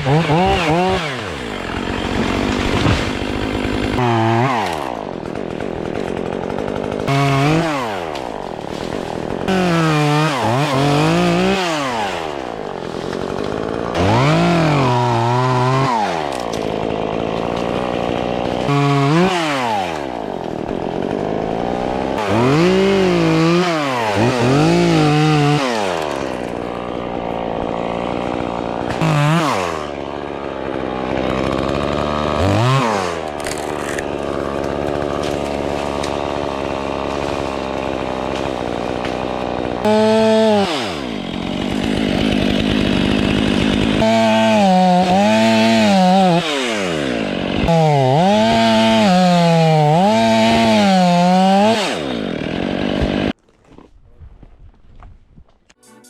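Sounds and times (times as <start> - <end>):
chainsaw engine revving: 0.0 - 53.4.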